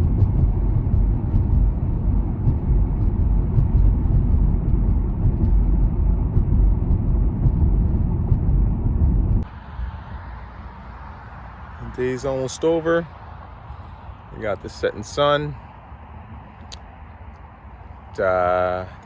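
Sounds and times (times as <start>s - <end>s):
road and wind noise in car: 0.0s - 19.0s.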